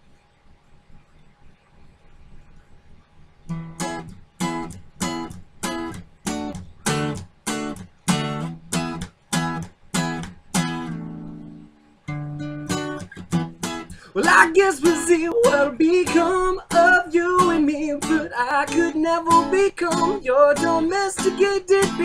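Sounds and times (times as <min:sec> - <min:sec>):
acoustic guitar strumming: 0:03.5 - 0:22.0.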